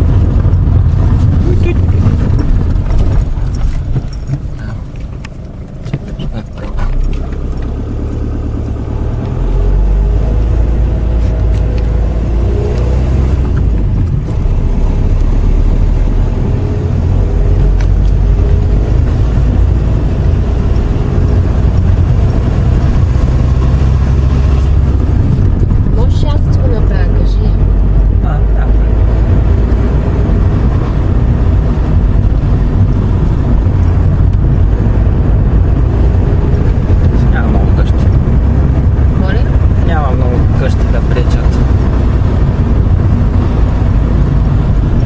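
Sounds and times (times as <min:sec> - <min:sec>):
car engine and tyre noise: 0:00.0 - 0:45.0.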